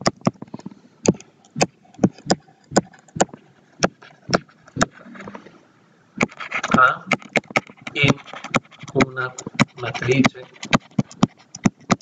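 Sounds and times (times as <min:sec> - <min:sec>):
stylus clicking on tablet: 0:00.0 - 0:04.9, 0:06.2 - 0:12.0.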